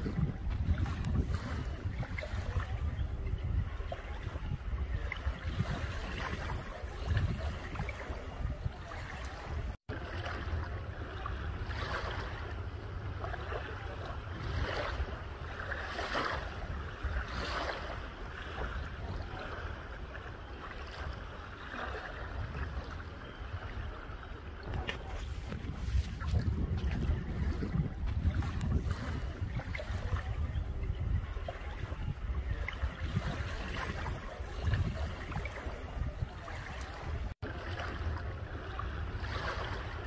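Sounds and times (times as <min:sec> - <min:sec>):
small waves lapping on sand: 0:00.0 - 0:40.0
wind on microphone: 0:00.0 - 0:40.0.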